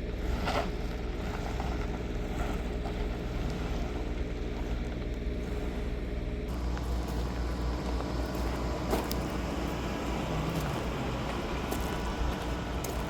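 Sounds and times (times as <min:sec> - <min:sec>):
car engine running: 0:00.0 - 0:13.0
road and tyre noise: 0:00.0 - 0:13.0.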